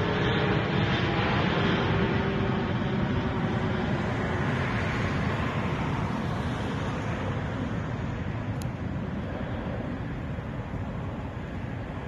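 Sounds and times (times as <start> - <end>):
jet airliner engine rumble: 0.0 - 12.0.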